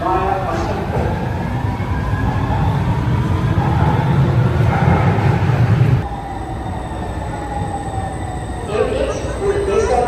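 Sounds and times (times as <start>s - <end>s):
faint train whine: 0.0s - 10.0s
metro train rumbling: 0.0s - 10.0s.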